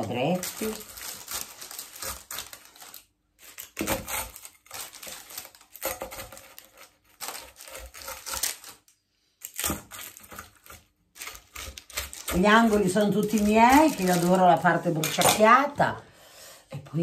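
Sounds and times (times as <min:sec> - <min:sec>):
pizza cutter crunching through flatbread: 0:00.3 - 0:15.4.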